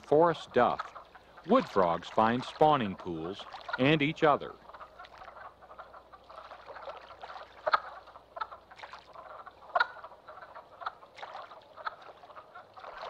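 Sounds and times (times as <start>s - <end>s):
frogs clucking chorus: 0.0s - 13.0s
loud frog calls: 0.0s - 13.0s.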